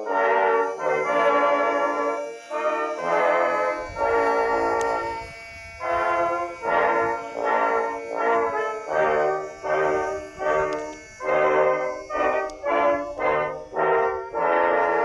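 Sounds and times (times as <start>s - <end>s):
background music with held chords: 0.0s - 15.0s.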